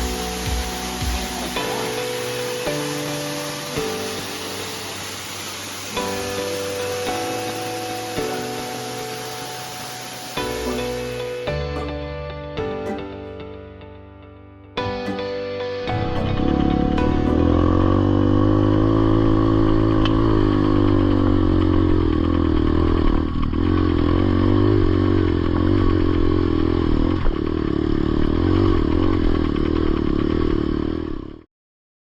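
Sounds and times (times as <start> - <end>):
dirt bike engine running: 0.0 - 11.7, 15.2 - 31.4.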